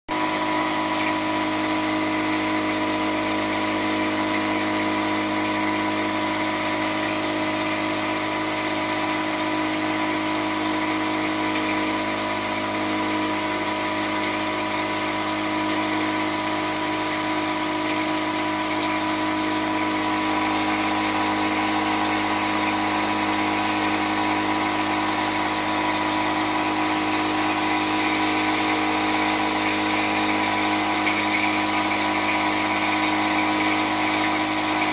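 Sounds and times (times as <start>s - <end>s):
dishwasher running: 0.1s - 34.9s.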